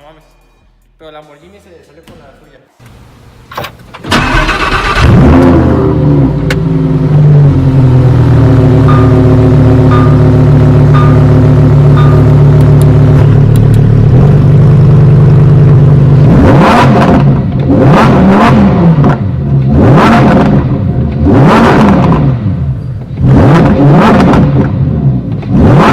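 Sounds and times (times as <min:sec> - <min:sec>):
car engine idling and revving: 0:04.1 - 0:25.9.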